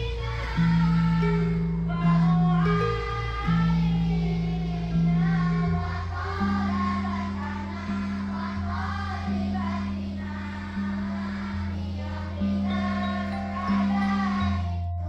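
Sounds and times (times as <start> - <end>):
children singing in chorus: 0.0 - 15.0
sustained low accompaniment notes: 0.0 - 15.0.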